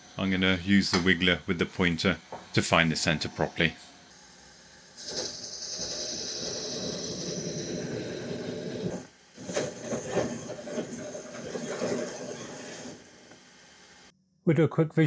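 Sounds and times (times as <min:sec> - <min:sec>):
milling machine cutting metal: 0:00.0 - 0:13.4
high whine: 0:00.0 - 0:14.7.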